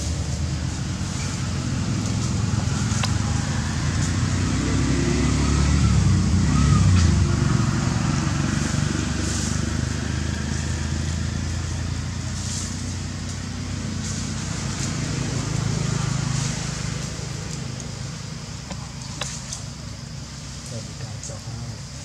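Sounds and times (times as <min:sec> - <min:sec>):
vehicle engine rumble: 0:00.0 - 0:22.0.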